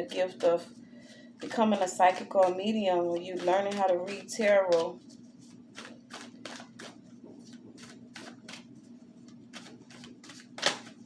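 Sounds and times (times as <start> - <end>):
cards being shuffled: 1.4 - 11.0.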